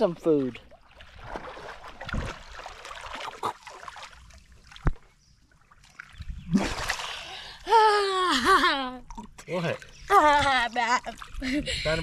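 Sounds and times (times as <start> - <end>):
water sloshing and splashing: 0.0 - 7.7, 9.0 - 12.0.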